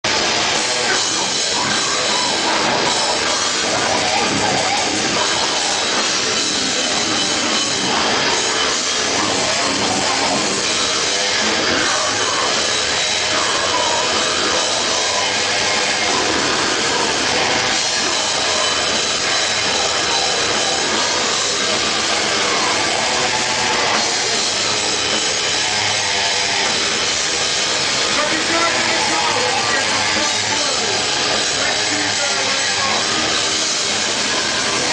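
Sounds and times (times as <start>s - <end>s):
distorted guitars: 0.0s - 34.9s
pounding drums: 0.0s - 34.9s.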